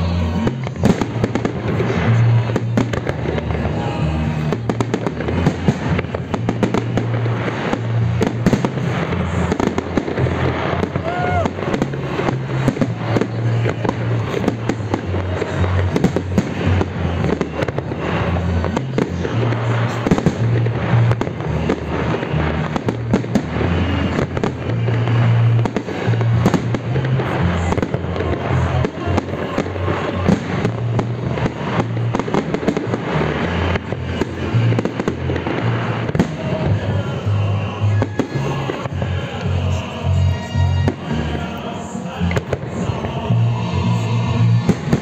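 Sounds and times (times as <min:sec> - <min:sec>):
fireworks bursting bangs and crackles: 0:00.0 - 0:45.0.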